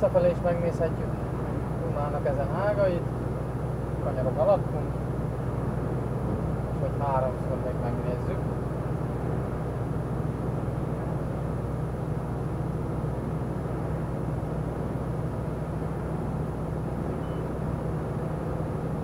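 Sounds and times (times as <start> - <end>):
lorry engine hum: 0.0 - 19.0.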